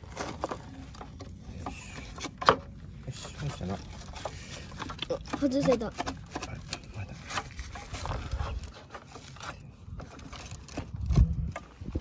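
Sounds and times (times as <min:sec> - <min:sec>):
low rumbling handling noise: 0:00.0 - 0:12.0.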